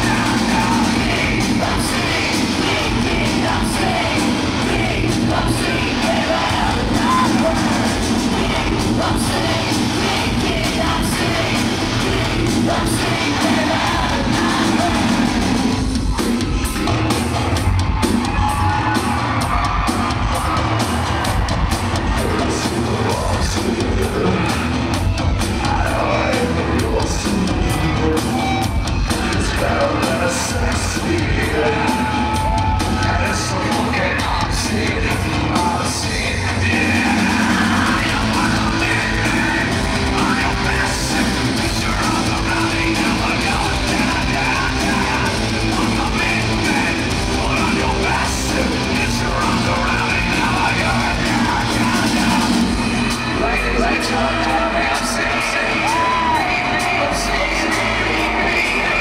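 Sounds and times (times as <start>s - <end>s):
person singing: 0.0s - 17.4s, 18.0s - 59.0s
crowd yelling: 0.0s - 59.0s
live rock music: 0.0s - 59.0s
steady drum beat: 0.0s - 59.0s.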